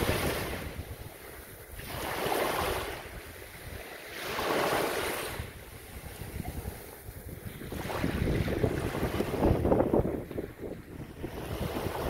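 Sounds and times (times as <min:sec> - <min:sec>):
waves washing up a beach: 0:00.0 - 0:12.0.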